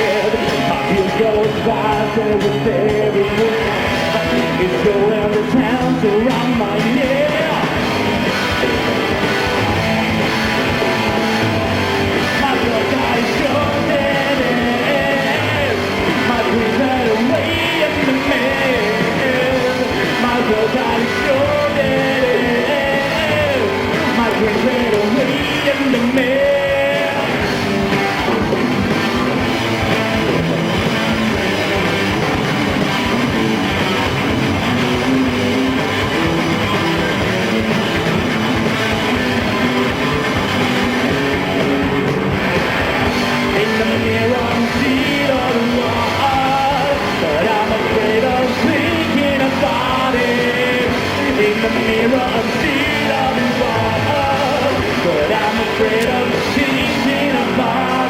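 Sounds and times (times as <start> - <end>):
live rock band: 0.0 - 58.0
melody line over band: 0.0 - 58.0.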